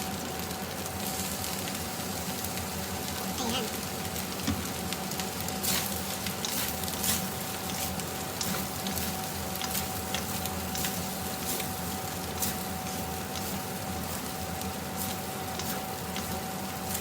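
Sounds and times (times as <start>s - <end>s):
rice sizzling in a pan: 0.0s - 17.0s.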